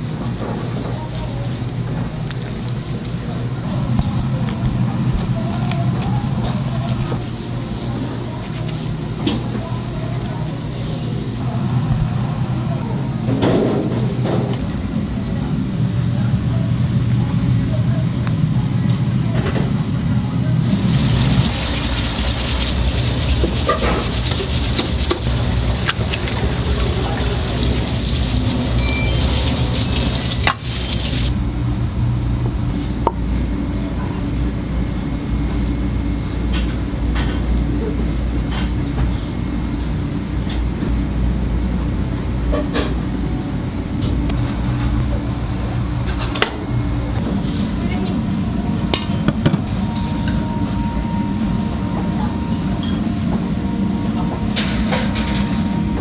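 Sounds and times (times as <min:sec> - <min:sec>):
low kitchen hum: 0:00.0 - 0:56.0.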